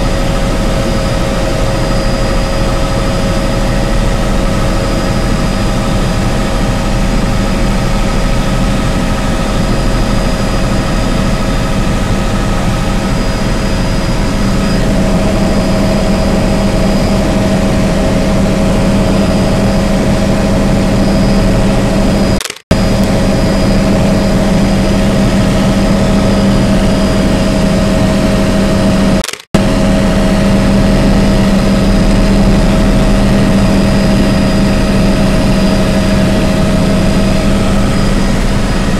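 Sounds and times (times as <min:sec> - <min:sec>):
helicopter engine and rotors drone: 0:00.0 - 0:38.9
steady whining tones: 0:00.0 - 0:38.9.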